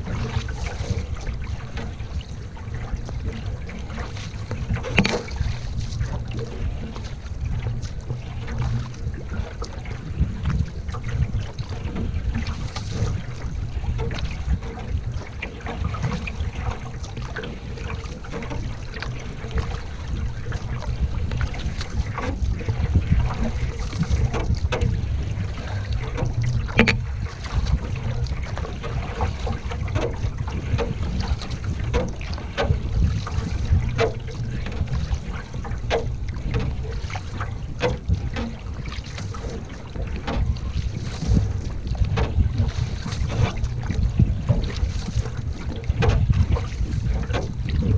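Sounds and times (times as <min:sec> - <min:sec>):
paddle strokes in water: 0:00.0 - 0:47.9
wind buffeting microphone: 0:00.0 - 0:47.9.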